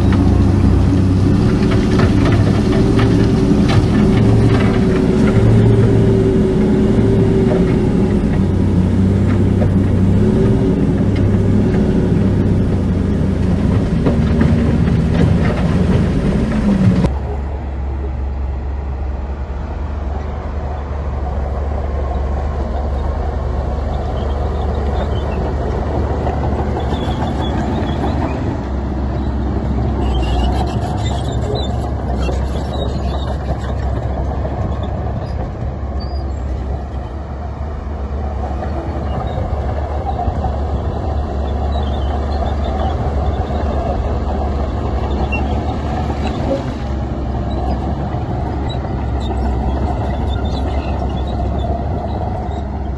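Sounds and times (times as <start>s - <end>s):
heavy machinery rumbling: 0.0s - 52.9s.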